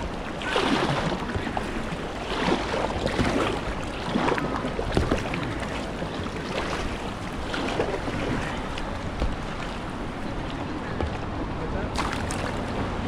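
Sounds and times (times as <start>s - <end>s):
kayak paddle splashing in water: 0.0s - 11.1s, 11.9s - 13.0s
river rushing: 0.0s - 13.0s.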